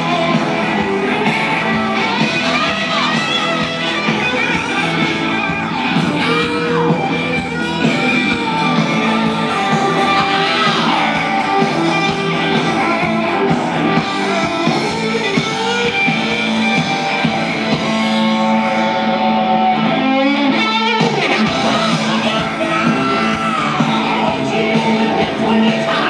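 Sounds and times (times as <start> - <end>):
electric guitar lead: 0.0 - 26.0
hard rock band playing: 0.0 - 26.0.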